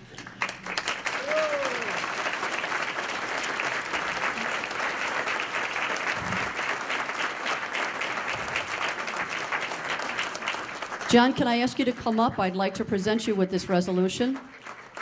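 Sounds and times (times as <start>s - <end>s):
audience applauding: 0.0s - 12.0s, 14.2s - 15.0s.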